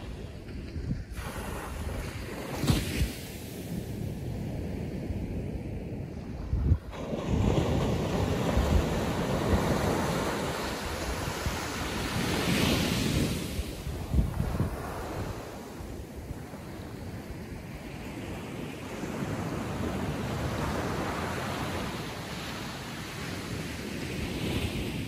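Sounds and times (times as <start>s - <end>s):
ocean surf washing onto beach: 0.0s - 25.0s
wind buffeting microphone: 0.0s - 25.0s.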